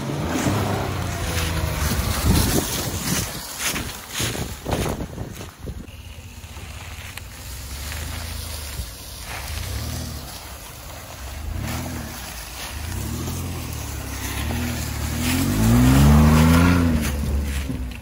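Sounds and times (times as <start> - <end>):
pickup engine revving: 0.0 - 4.1, 6.4 - 18.0.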